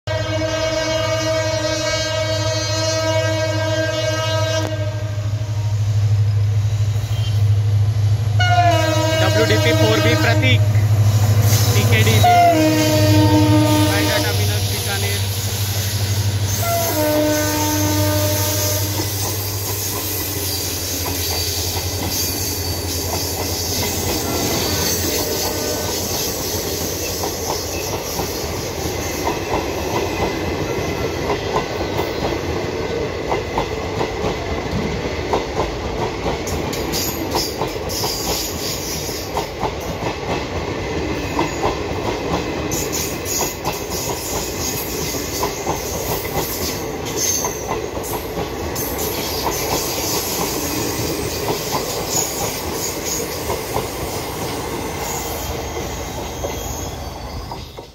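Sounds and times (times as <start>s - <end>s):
train rolling rumble: 0.6s - 57.9s.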